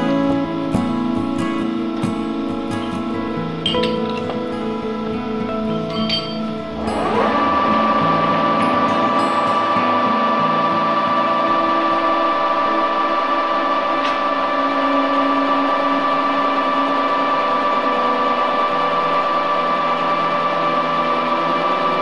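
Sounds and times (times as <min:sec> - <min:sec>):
metal lathe whining: 0:00.0 - 0:22.0.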